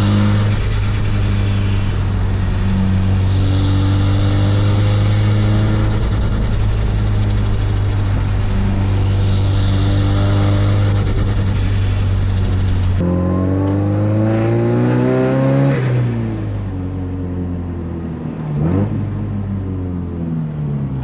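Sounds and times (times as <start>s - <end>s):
car engine revving: 0.0s - 17.0s, 18.3s - 19.4s
road and wind noise: 0.0s - 21.0s.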